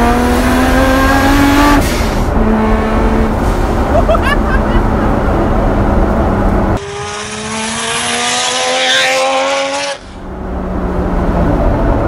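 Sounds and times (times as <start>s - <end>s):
cabin drone and road noise: 0.0s - 12.0s
car engine revving: 0.0s - 12.0s.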